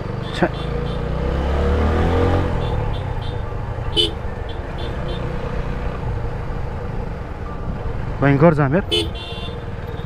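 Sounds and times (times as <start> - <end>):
motorcycle engine rumbling: 0.0 - 10.0
road and wind noise: 0.0 - 10.0.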